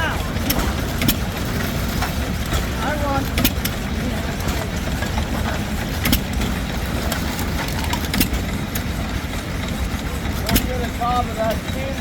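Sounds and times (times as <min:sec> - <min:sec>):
low rumble of engines: 0:00.0 - 0:12.0
stationary gas engine banging: 0:00.0 - 0:12.0.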